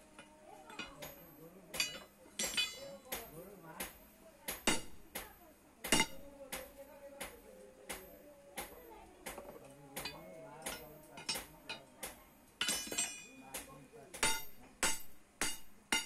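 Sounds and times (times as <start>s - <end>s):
hammer striking metal on anvil: 0.1s - 16.0s.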